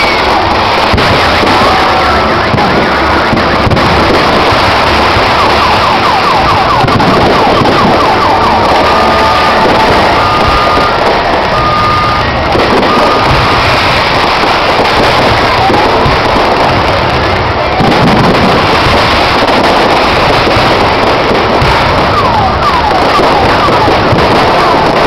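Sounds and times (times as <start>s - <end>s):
firework whistles: 0.0s - 16.8s, 17.8s - 25.0s
fireworks crackling: 0.0s - 25.0s.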